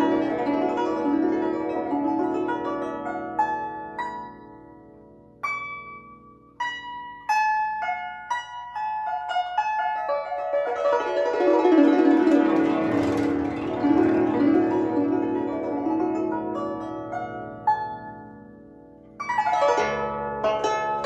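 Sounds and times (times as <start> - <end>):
plucked zither notes: 0.0 - 21.0.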